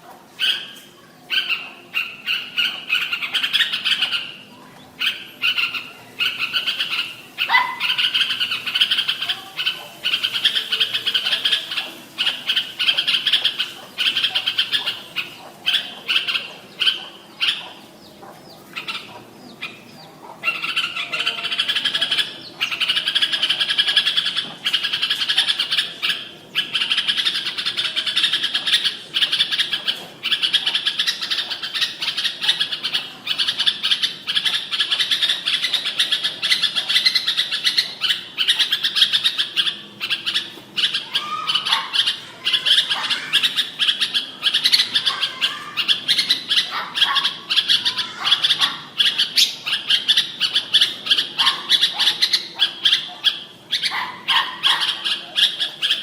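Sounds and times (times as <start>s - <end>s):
bird singing rapid high chirps: 0.4s - 56.0s.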